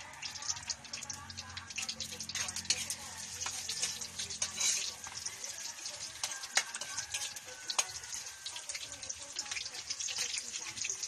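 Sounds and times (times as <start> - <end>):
garlic sizzling in hot oil: 0.0 - 11.0.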